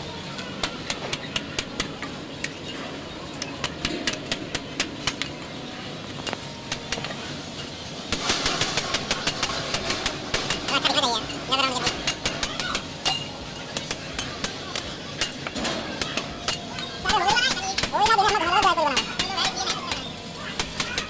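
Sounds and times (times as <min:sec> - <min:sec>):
workshop hum: 0:00.0 - 0:21.0.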